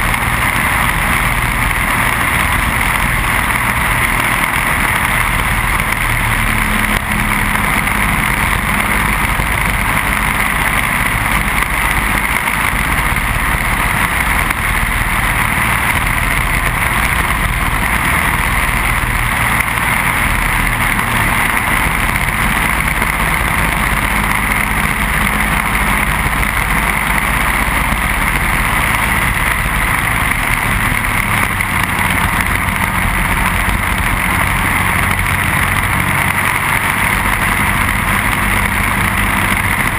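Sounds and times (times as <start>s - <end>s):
kart engine running at speed: 0.0s - 39.9s
wind and road noise: 0.0s - 39.9s.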